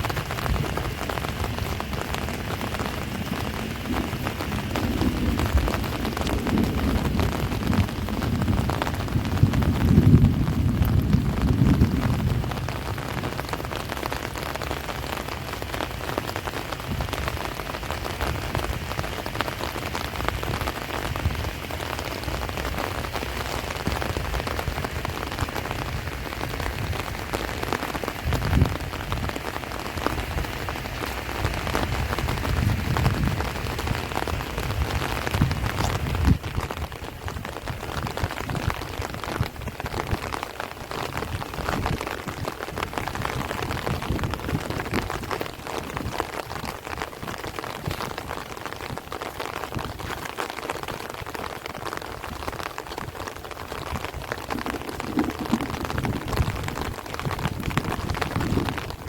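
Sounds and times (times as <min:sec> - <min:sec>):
wind gusting on microphone: 0:00.0 - 0:14.4, 0:16.4 - 0:59.0
heavy rain on plants: 0:00.0 - 0:59.0.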